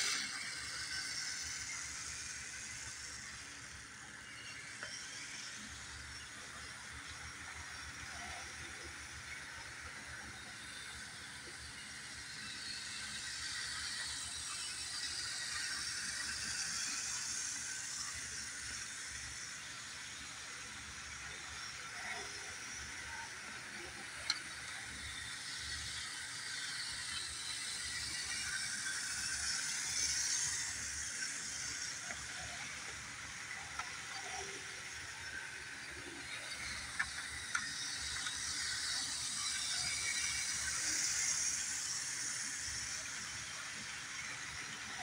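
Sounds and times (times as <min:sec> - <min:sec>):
model train motor whirring: 0:00.0 - 0:45.0
wheels rolling on rails: 0:00.0 - 0:45.0.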